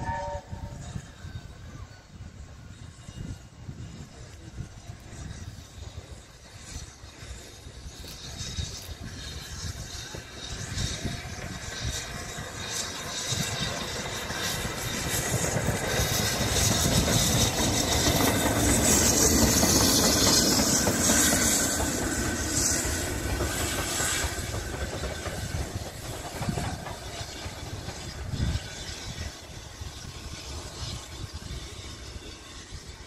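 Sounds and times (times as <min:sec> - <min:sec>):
steam hissing: 0:00.0 - 0:33.0.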